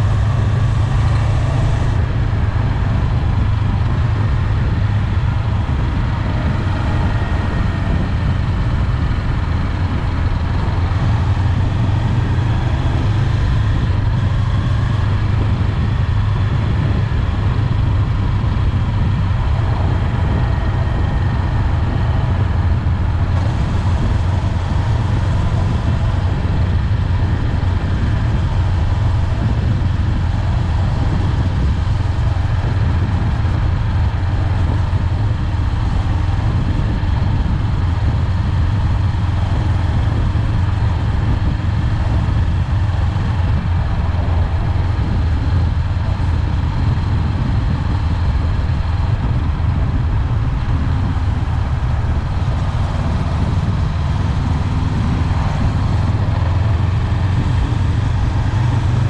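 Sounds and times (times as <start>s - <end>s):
motorcycle engine cruising: 0.0s - 59.0s
wind noise: 0.0s - 59.0s.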